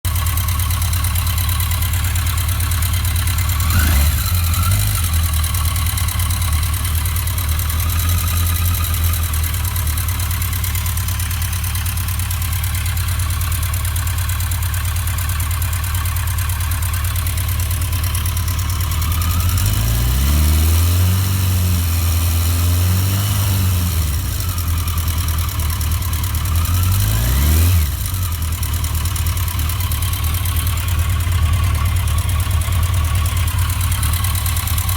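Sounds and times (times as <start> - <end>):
engine ticking: 0.0 - 34.9
motorcycle engine idling and revving: 0.0 - 34.9.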